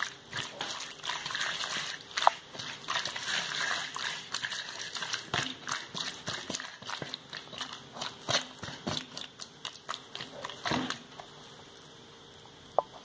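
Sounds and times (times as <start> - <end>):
wet squelchy hand stirring: 0.0 - 11.3.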